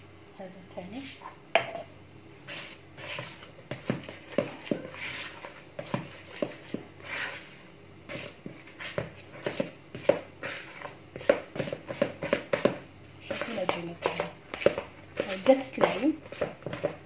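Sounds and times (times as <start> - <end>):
wet dough squishing and slapping: 2.5 - 17.0.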